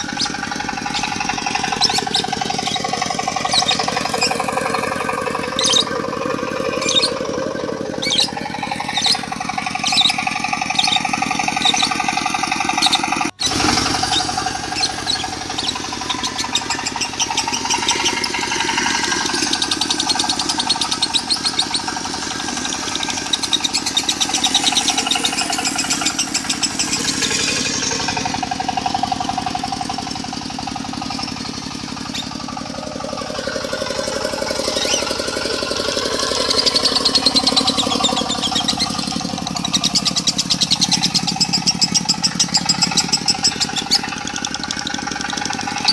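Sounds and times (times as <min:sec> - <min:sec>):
diesel engine running: 0:00.0 - 0:45.9
lovebird chattering trill: 0:00.0 - 0:45.9.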